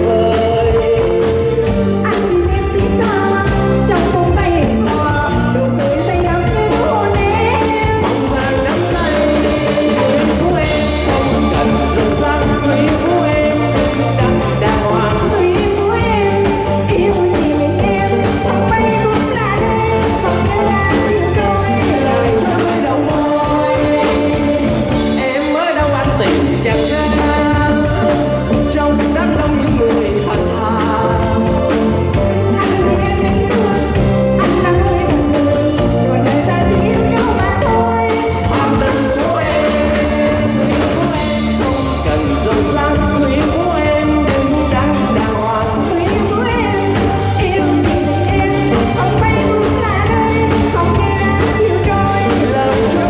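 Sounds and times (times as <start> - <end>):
live band playing: 0.0 - 53.0
steady drum beat: 0.0 - 53.0
woman singing into a microphone: 0.0 - 53.0.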